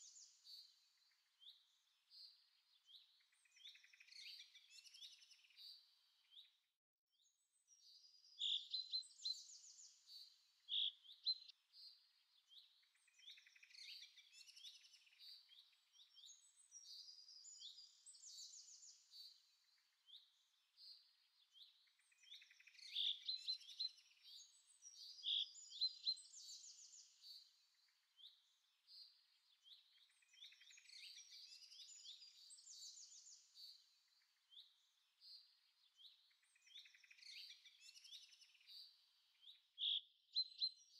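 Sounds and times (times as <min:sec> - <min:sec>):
birds chirping and trilling: 0:00.0 - 0:06.6, 0:07.4 - 0:40.9.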